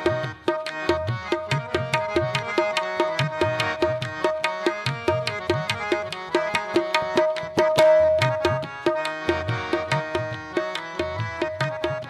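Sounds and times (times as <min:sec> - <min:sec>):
hand drum rhythm: 0:00.0 - 0:12.0.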